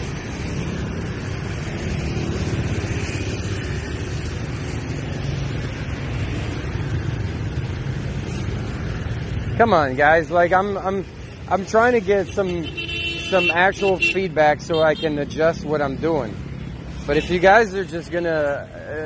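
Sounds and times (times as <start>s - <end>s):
motorbikes and scooters passing: 0.0s - 19.0s.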